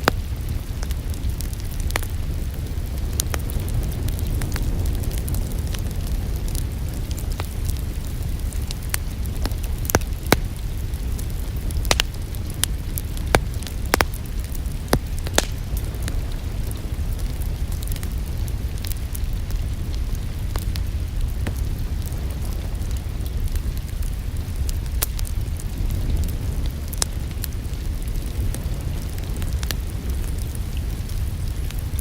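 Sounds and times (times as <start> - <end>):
fire pops and snaps: 0.0 - 32.0
rain hiss: 0.0 - 32.0
wood fire crackling: 0.0 - 32.0.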